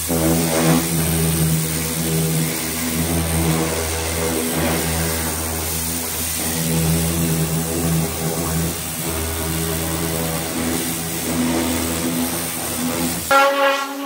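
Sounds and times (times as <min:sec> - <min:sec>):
high-pressure water jet hissing: 0:00.0 - 0:14.0
music: 0:00.0 - 0:14.0
pressure washer motor humming: 0:00.0 - 0:14.0.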